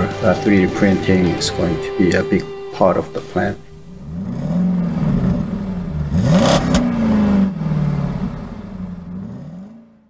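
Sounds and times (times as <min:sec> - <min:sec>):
vehicle engine revving: 0:01.2 - 0:10.0.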